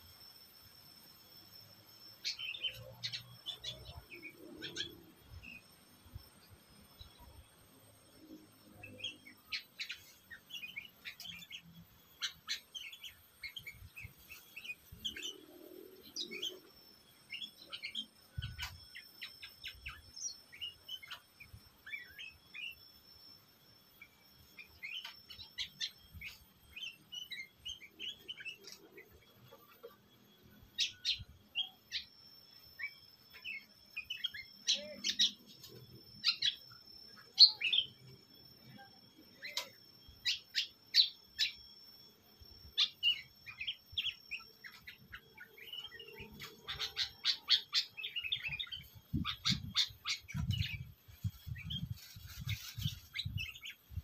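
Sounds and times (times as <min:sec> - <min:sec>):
birds chirping and whistling: 0:02.1 - 0:07.4, 0:08.1 - 0:22.9, 0:24.0 - 0:54.0.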